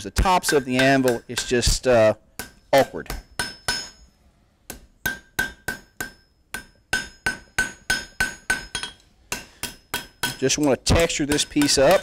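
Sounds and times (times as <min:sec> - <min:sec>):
hammer striking steel on anvil: 0:00.2 - 0:12.0.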